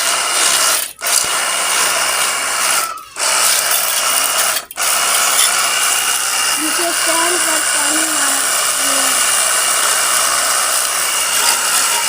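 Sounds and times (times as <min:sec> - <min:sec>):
pressure washer spraying: 0:00.0 - 0:12.0.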